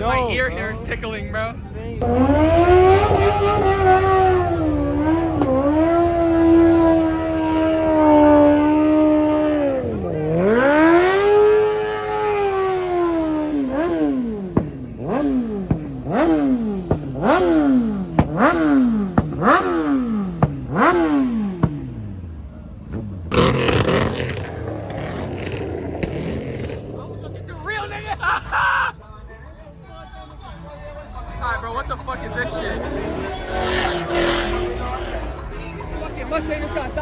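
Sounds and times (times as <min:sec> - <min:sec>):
engine revving: 0:00.0 - 0:28.3, 0:30.7 - 0:37.0.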